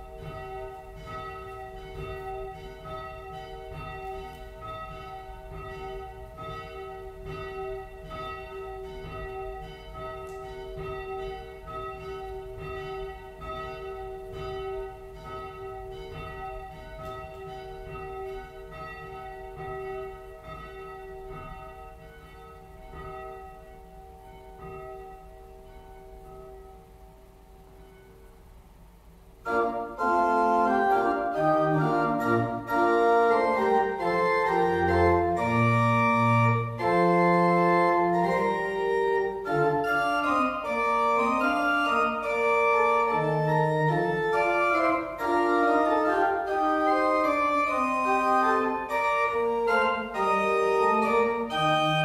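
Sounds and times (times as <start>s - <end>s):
church bells ringing: 0.0s - 28.7s, 29.5s - 52.0s.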